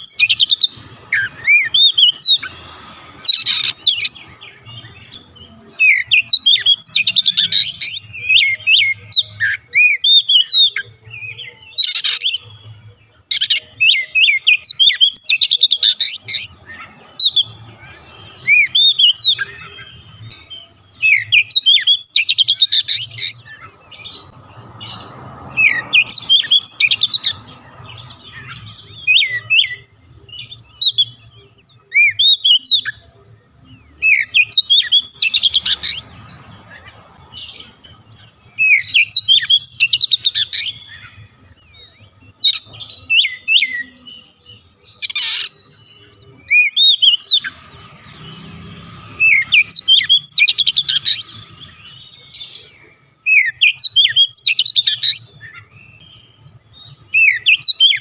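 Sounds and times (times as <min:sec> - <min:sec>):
bird singing whistles and trills: 0:00.0 - 0:58.0.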